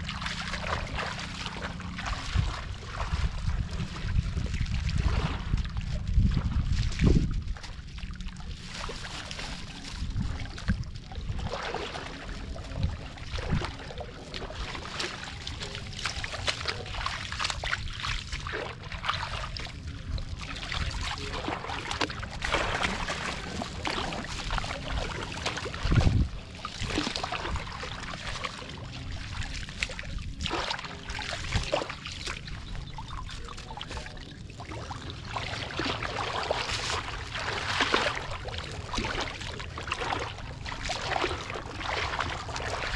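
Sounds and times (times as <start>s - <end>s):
steady low rumble: 0.0s - 42.9s
water sloshing and trickling: 0.0s - 42.9s.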